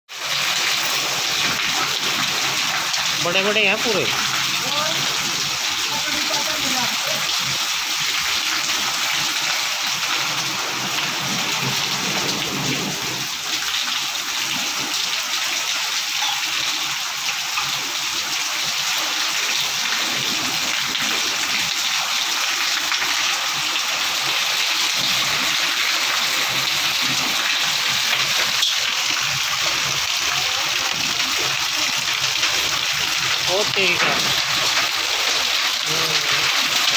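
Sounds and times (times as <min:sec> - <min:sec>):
heavy rain on a metal roof: 0:00.1 - 0:36.9.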